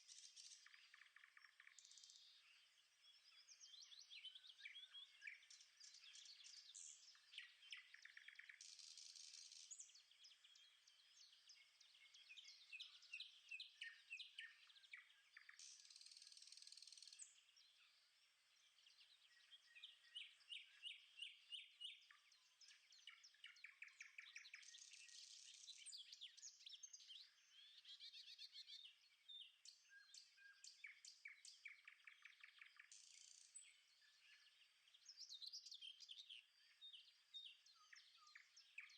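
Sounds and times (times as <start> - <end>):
faint birdsong chirps: 0.0 - 38.9.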